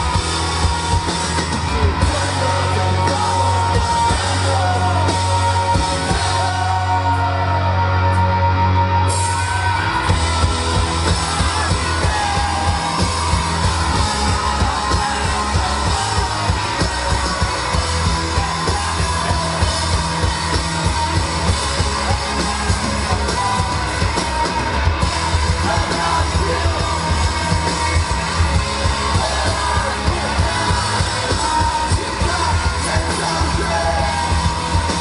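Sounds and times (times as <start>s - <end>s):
live rock band: 0.0s - 35.0s
shouted vocals: 0.0s - 35.0s.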